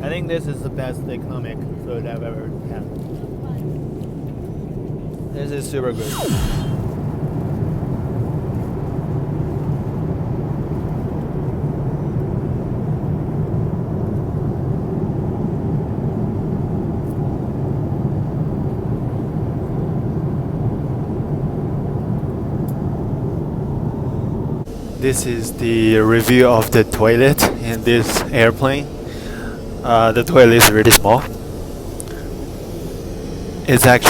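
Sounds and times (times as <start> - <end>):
airliner cabin engine rumble: 0.0 - 34.0.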